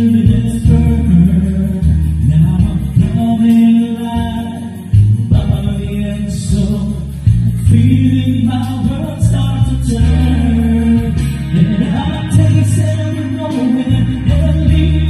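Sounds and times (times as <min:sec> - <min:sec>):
amplified low chords: 0:00.0 - 0:15.0
man singing into a microphone: 0:00.0 - 0:15.0.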